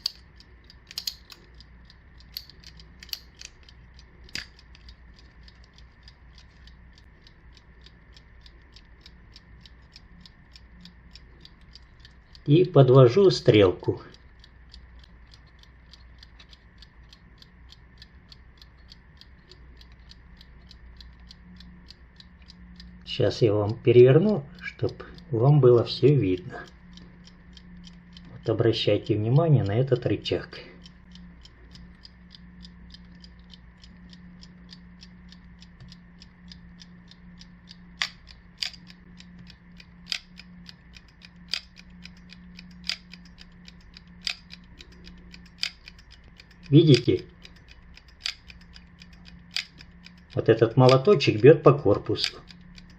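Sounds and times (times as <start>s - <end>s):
alarm clock ticking: 0.0s - 52.9s.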